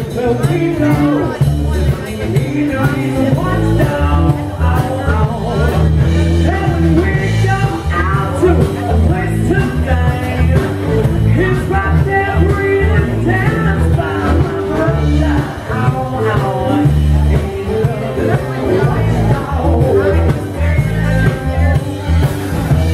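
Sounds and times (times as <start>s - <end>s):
drum kit: 0.0s - 22.9s
electric bass guitar: 0.0s - 22.9s.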